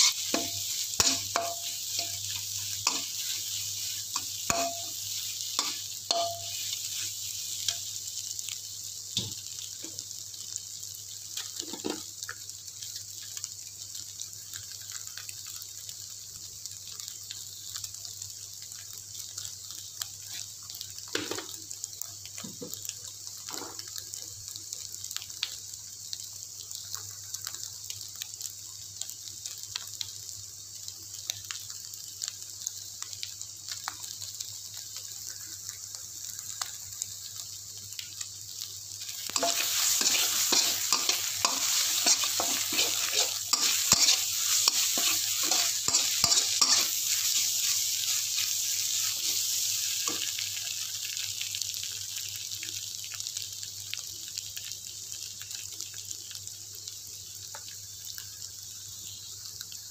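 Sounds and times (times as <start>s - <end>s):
egg frying in hot oil: 0.0s - 59.9s.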